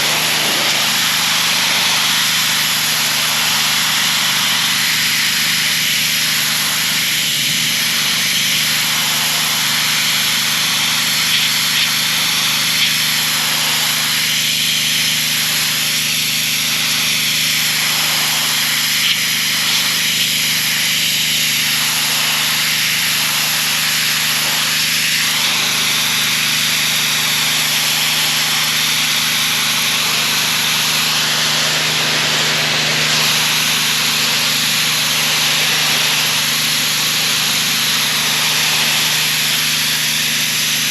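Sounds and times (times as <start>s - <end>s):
high-pressure water jet hissing: 0.0s - 40.9s
pressure washer engine hum: 0.0s - 40.9s.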